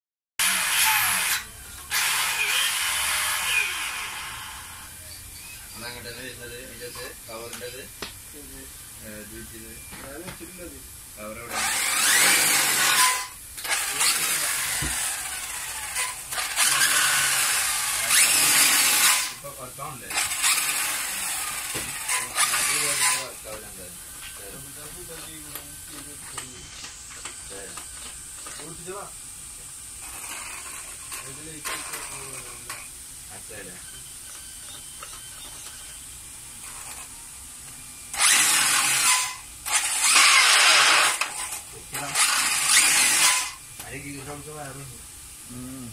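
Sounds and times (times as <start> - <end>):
toy car motor whirring: 0.4 - 7.8, 11.2 - 29.0, 29.7 - 44.7.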